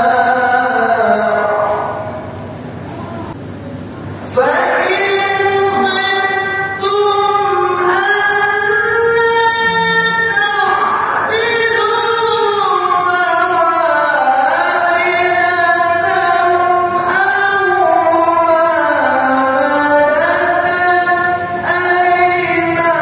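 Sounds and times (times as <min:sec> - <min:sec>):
person chanting recitation: 0:00.0 - 0:03.4, 0:04.2 - 0:23.0.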